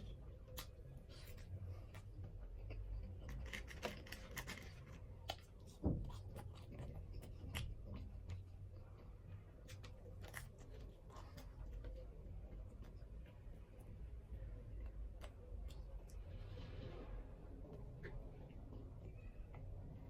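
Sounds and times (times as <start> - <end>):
chewing with crisp crunches: 0.0 - 20.0.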